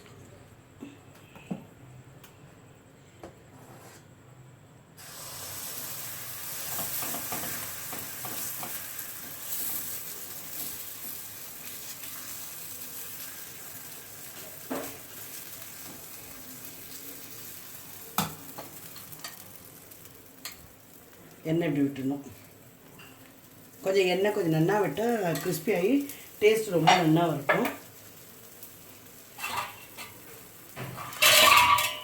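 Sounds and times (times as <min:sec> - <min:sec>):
batter sizzling on a pan: 0:05.0 - 0:32.0.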